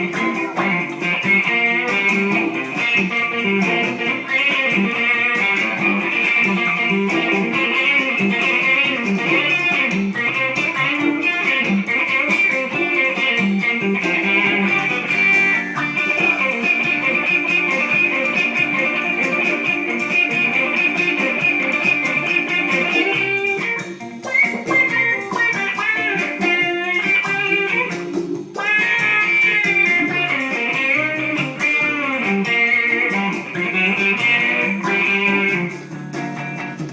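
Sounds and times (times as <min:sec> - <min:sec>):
blues guitar playing: 0:00.0 - 0:36.9.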